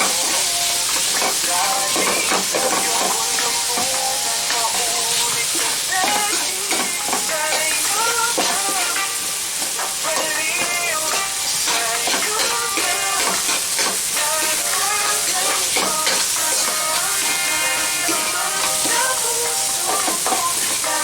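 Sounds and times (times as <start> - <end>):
food sizzling in a pan: 0.0 - 21.0
song with singing voice: 0.0 - 21.0.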